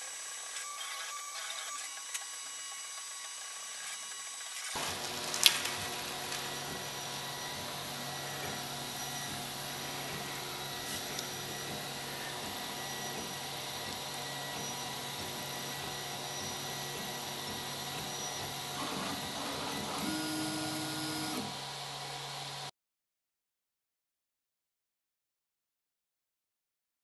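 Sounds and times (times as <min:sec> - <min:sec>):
high-pitched whine: 0:00.0 - 0:22.7
printer stepper motors whirring: 0:00.0 - 0:22.7.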